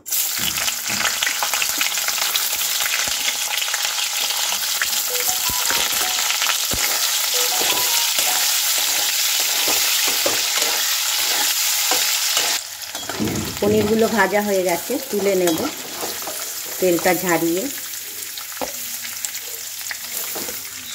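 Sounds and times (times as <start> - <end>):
food sizzling in hot oil: 0.0 - 20.9.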